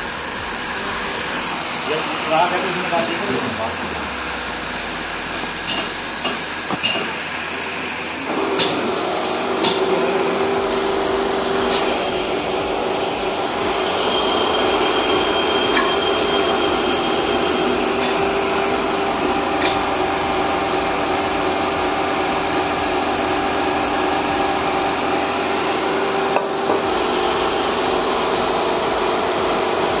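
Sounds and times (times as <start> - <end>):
furnace mechanical hum and hiss: 0.0 - 30.0
high whine: 0.0 - 30.0.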